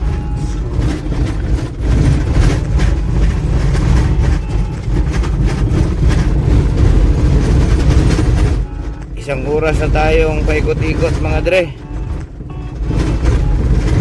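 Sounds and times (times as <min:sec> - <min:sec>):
jolts and rattles: 0:00.0 - 0:14.0
vehicle rumbling on rough track: 0:00.0 - 0:14.0.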